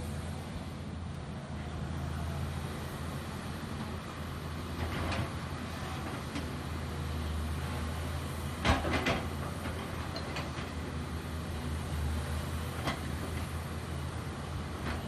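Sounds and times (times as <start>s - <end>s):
excavator diesel engines running: 0.0s - 15.0s.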